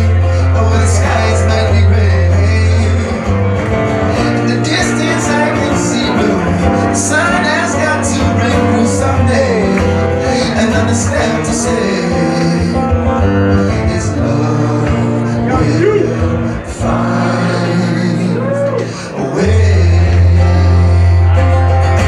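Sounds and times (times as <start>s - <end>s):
acoustic guitar strumming: 0.0s - 22.0s
man singing: 0.0s - 22.0s.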